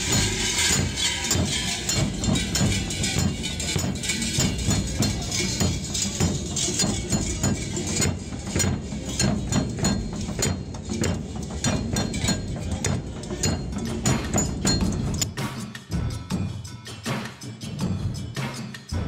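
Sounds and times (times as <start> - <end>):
brass cowbells clanking: 0.0 - 19.0.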